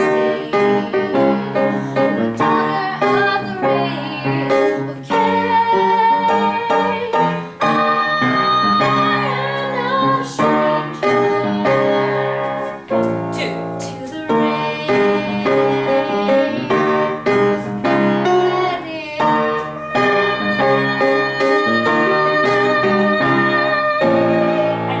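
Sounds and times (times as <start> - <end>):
woman singing: 0.0 - 12.9, 13.8 - 25.0
piano accompaniment: 0.0 - 25.0.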